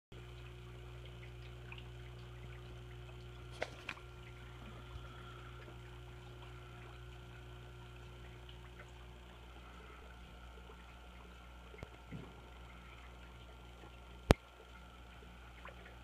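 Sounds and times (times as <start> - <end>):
low electrical hum: 0.2 - 16.0
water trickling from filter: 0.2 - 16.0.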